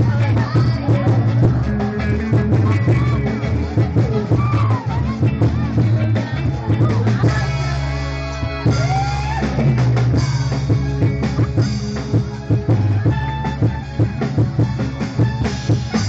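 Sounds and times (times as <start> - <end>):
drum kit beat: 0.0 - 16.0
live band music: 0.0 - 16.0.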